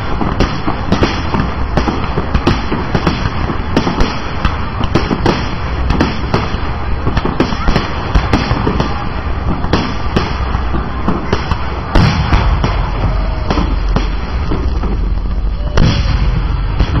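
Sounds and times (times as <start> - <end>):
fireworks bursting: 0.0 - 17.0
fireworks crackle: 0.0 - 17.0
loud bangs: 0.0 - 17.0.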